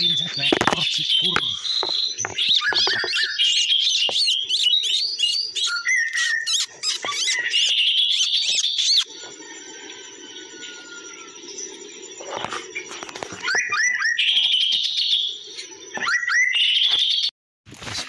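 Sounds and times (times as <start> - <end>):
bird chirps and whistles: 0.0 - 11.8, 12.7 - 17.3.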